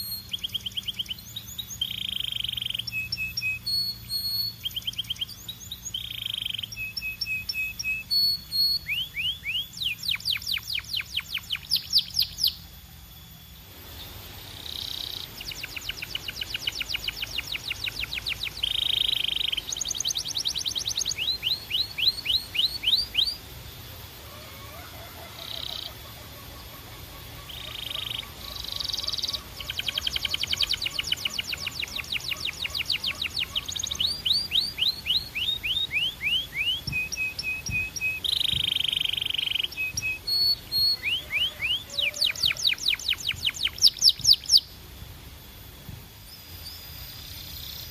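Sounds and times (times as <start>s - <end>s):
canary singing: 0.0s - 12.8s, 14.0s - 44.8s.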